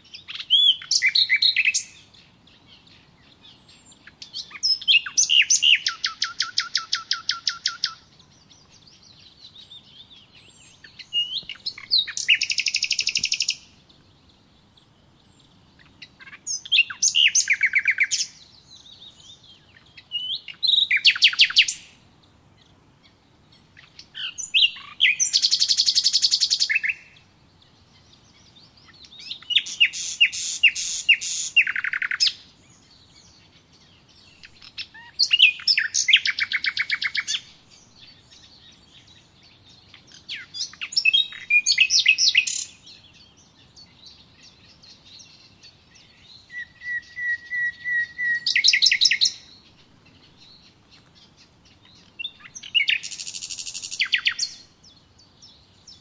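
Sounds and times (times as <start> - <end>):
songbird trilling: 0.0 - 22.0, 23.4 - 56.0.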